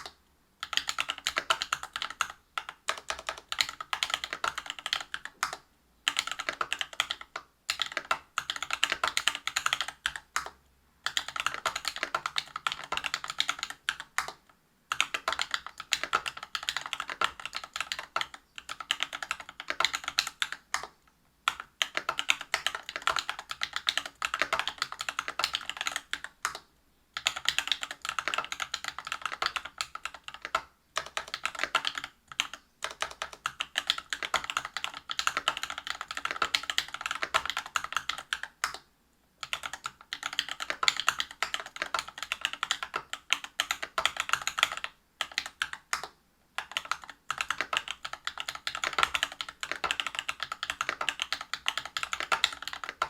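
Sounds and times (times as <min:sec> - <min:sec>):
mechanical keyboard typing: 0:00.0 - 0:26.6, 0:27.2 - 0:38.8, 0:39.4 - 0:53.0.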